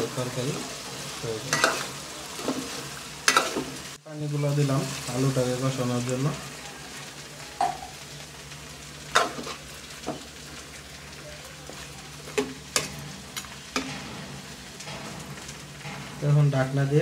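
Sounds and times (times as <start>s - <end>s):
faint sizzling: 0.0s - 17.0s.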